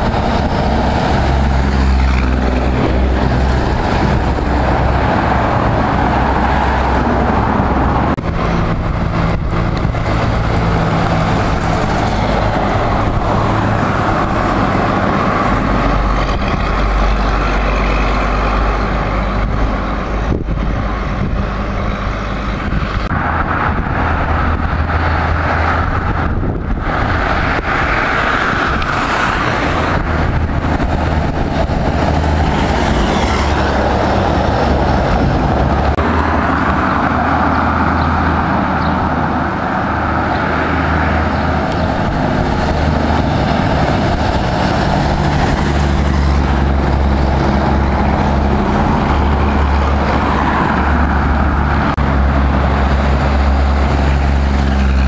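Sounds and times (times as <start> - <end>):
road and traffic noise: 0.0 - 55.0
truck diesel engine rumbling: 0.0 - 55.0.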